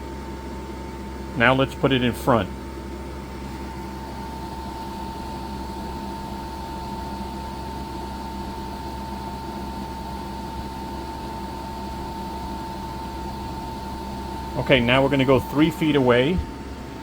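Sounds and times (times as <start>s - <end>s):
air conditioner fan rushing air: 0.0s - 17.0s
mid-pitched whine: 0.0s - 17.0s.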